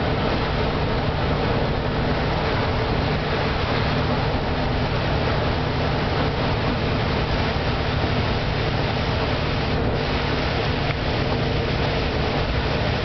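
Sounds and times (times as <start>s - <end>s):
bus engine hum: 0.0s - 13.0s
even rushing noise: 0.0s - 13.0s.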